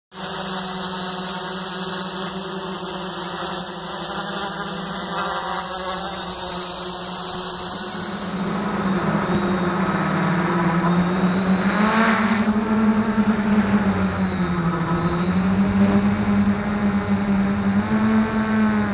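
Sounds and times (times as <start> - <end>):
drone propellers buzzing: 0.1 - 18.9.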